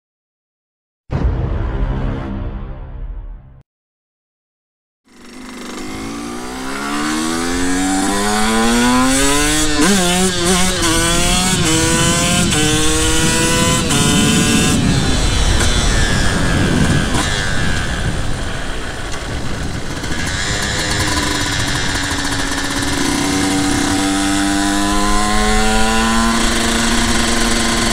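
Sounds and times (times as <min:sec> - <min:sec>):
two-stroke motorcycle engine revving: 0:05.1 - 0:27.9.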